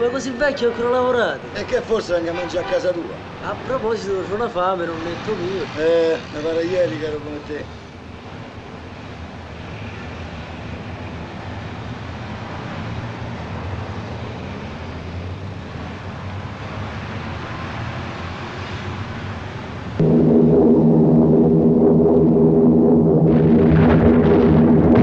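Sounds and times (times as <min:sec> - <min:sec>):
busy city street traffic: 0:00.0 - 0:20.0.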